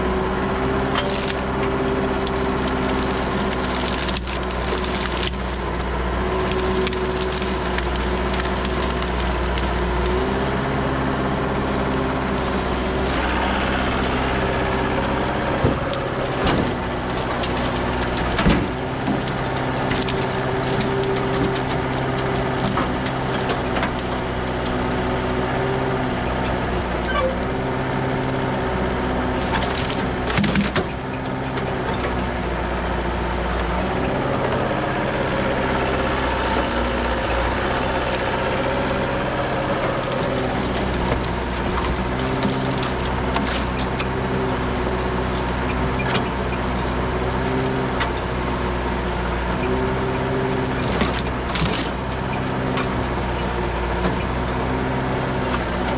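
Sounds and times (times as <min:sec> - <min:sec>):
excavator diesel engine running: 0:00.0 - 0:55.9
branches cracking and snapping: 0:00.6 - 0:55.9.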